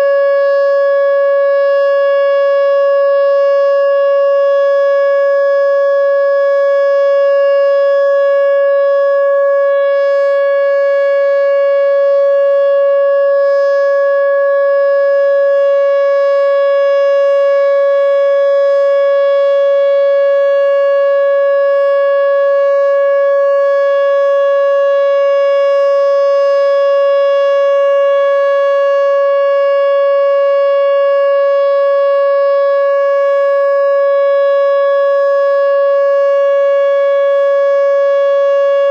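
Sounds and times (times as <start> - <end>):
loud steady warning siren: 0.0 - 38.9.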